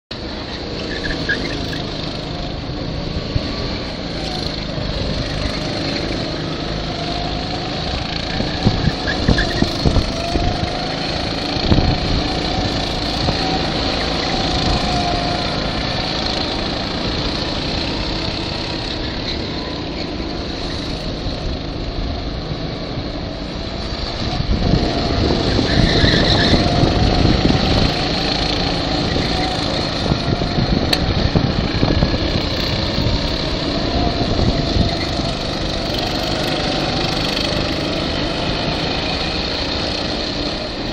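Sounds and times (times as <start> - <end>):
go-kart engines revving: 0.1 - 40.9
low gusts: 0.1 - 40.9.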